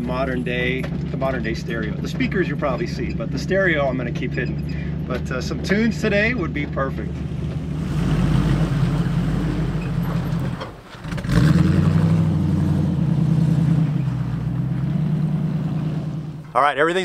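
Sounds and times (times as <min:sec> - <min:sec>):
car engine driving uphill: 0:00.0 - 0:17.0.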